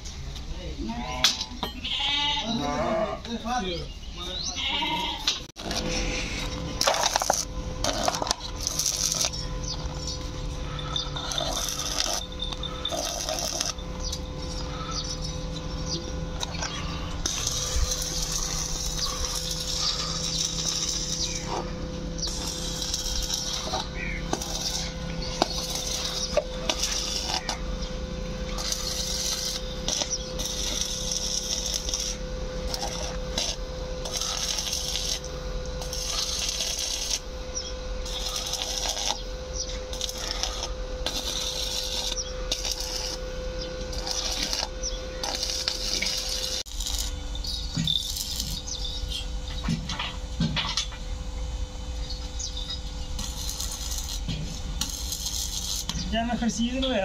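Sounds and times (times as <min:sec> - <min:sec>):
steady hum: 0:00.0 - 0:57.0
welding arc crackling: 0:05.2 - 0:57.0.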